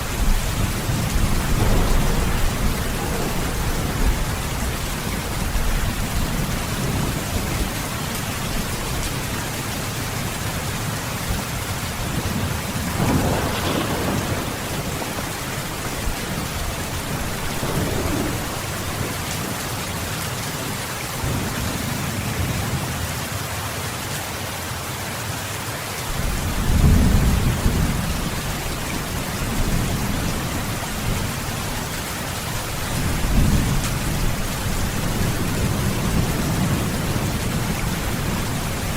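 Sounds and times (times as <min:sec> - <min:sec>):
thunder rolling: 0:00.0 - 0:10.6, 0:11.3 - 0:20.0, 0:26.1 - 0:38.9
heavy rain falling: 0:00.0 - 0:38.9.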